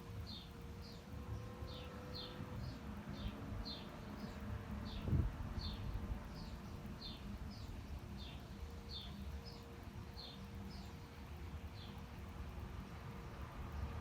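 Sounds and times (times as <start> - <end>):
distant city traffic rumble: 0.0 - 14.0
small songbird chirping: 0.0 - 14.0.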